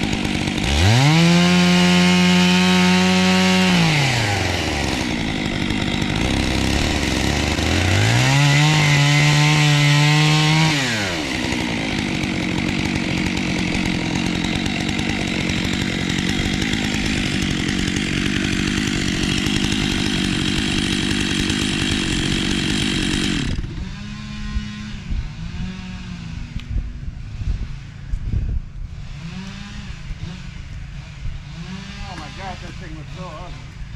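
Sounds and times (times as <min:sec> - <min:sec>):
chainsaw revving and cutting wood: 0:00.0 - 0:33.9.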